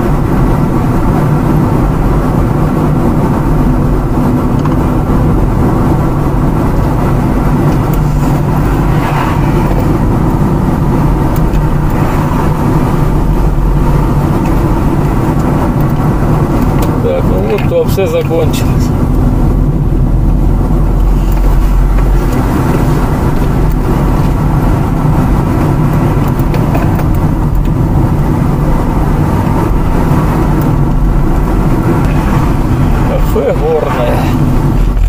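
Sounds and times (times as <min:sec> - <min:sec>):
car engine and tyre hum: 0:00.0 - 0:35.0.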